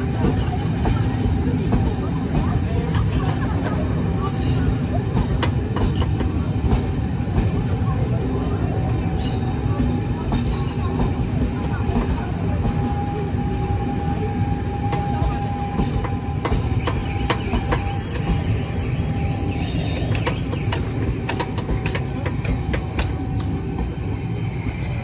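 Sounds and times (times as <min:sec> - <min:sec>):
train coaches rumbling past: 0:00.0 - 0:25.0.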